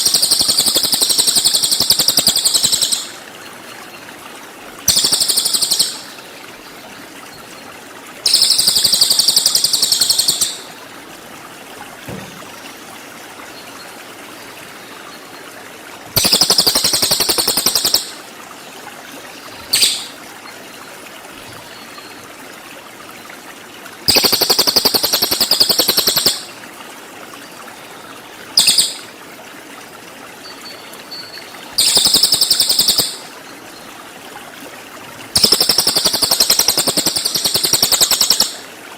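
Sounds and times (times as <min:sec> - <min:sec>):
songbird buzzy trills: 0:00.0 - 0:10.9, 0:13.4 - 0:22.4, 0:24.1 - 0:26.6, 0:27.4 - 0:29.2, 0:30.3 - 0:34.0, 0:35.2 - 0:38.7
water trickling: 0:00.0 - 0:38.9.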